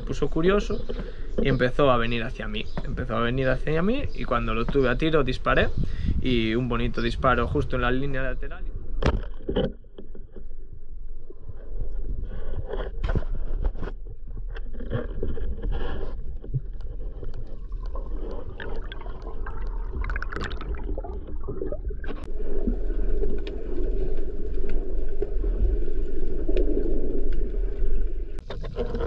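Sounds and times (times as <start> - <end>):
rumble of moving water underwater: 0.0 - 29.0.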